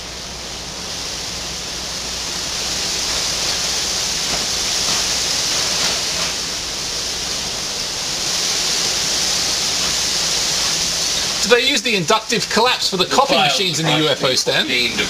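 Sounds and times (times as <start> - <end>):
low electrical hum: 0.0 - 15.0
steady hiss: 0.0 - 15.0.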